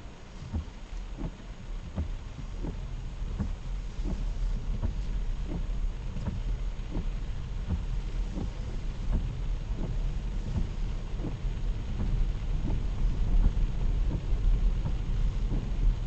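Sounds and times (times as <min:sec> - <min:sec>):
heavy rain: 0:00.0 - 0:16.0
road and engine rumble: 0:00.0 - 0:16.0
regular soft thud: 0:00.3 - 0:16.0.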